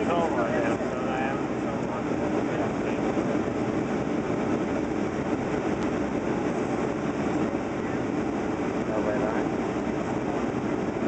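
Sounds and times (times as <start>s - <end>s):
airplane cabin engine noise: 0.0s - 11.0s.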